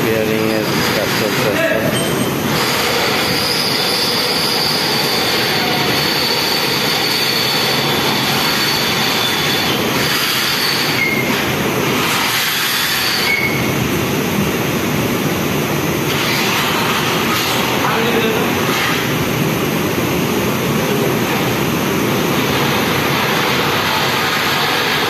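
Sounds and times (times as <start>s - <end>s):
laundry machines rumbling: 0.0s - 12.4s, 13.3s - 25.0s
high whine: 0.0s - 25.0s.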